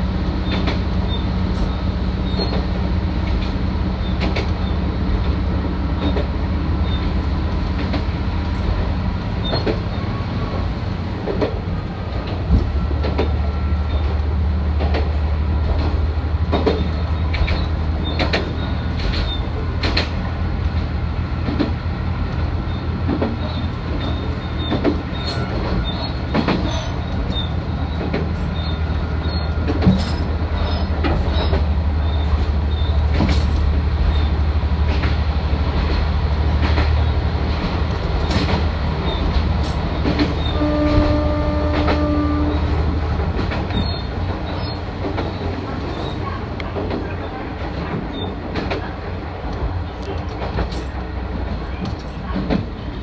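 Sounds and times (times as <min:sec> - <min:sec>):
wheels clicking over rail joints: 0:00.4 - 0:53.0.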